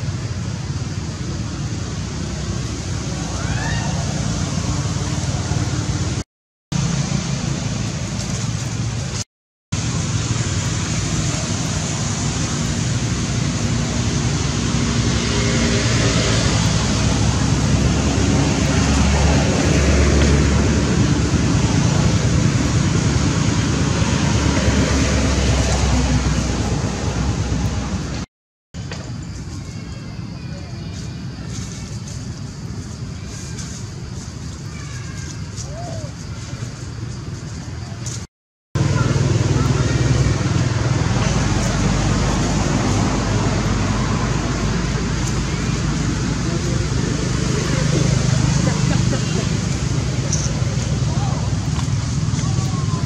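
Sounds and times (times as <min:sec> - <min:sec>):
loud outdoor rushing noise: 0:00.0 - 0:53.0.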